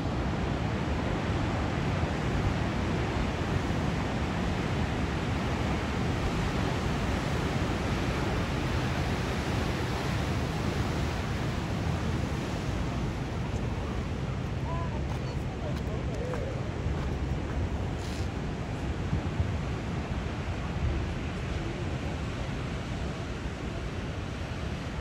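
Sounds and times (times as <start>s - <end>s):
ocean surf breaking: 0.0s - 21.4s
wind: 0.0s - 25.0s.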